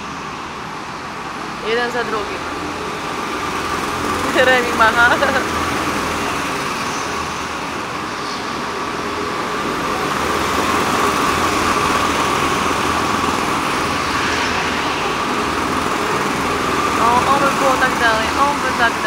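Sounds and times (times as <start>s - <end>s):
go-kart engines droning: 0.0s - 19.0s.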